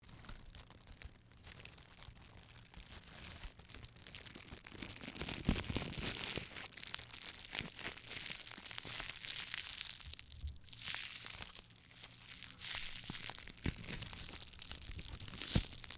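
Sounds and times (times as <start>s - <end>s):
dense irregular crackling: 0.0s - 15.9s.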